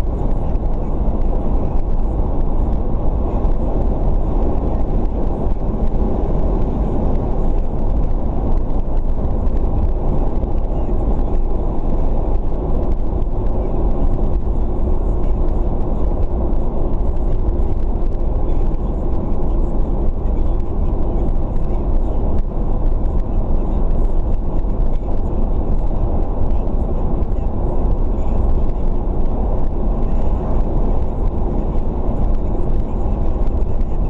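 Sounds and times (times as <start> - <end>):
car cabin road and engine noise: 0.0 - 34.0.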